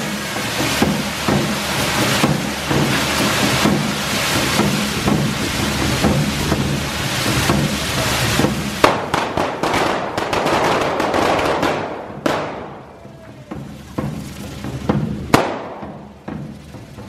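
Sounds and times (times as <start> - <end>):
loud firework bang: 0.0 - 12.9, 15.3 - 16.1
fireworks hissing and crackling: 0.0 - 17.0.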